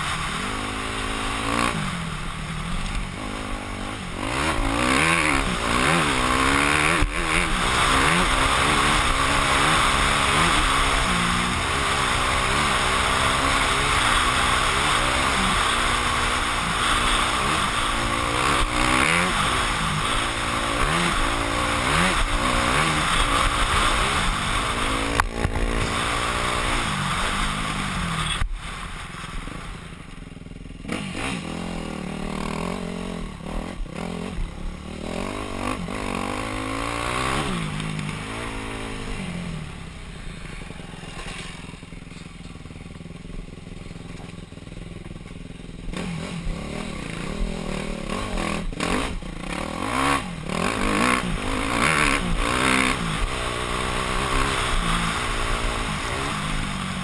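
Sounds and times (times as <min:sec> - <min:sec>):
dirt bike engine revving: 0:00.0 - 0:44.8, 0:45.5 - 0:57.0.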